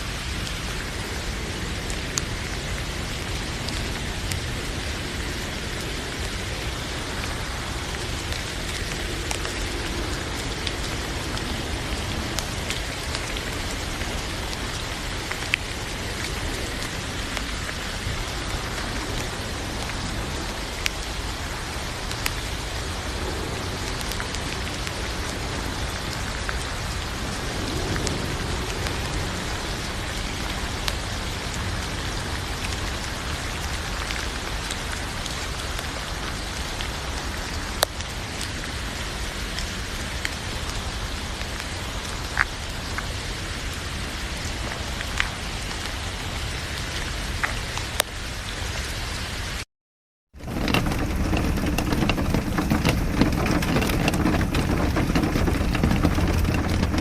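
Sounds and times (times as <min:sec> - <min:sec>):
raindrops landing close by: 0:00.0 - 0:48.3, 0:50.4 - 0:57.0
rain falling: 0:00.0 - 0:49.6, 0:50.3 - 0:57.0.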